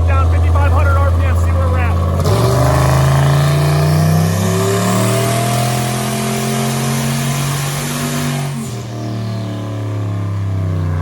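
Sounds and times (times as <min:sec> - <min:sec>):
turbocharged engine revving: 0:00.0 - 0:11.0.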